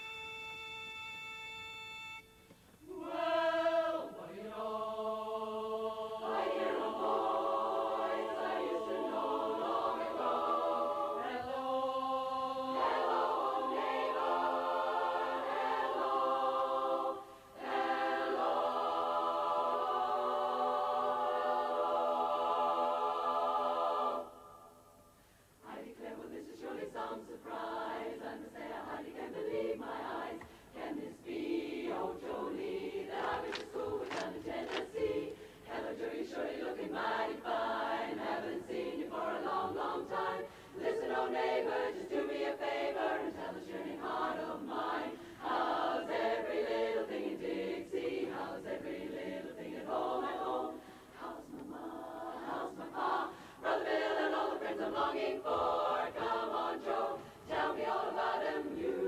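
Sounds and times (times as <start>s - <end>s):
women's chorus singing a cappella: 2.8s - 59.0s.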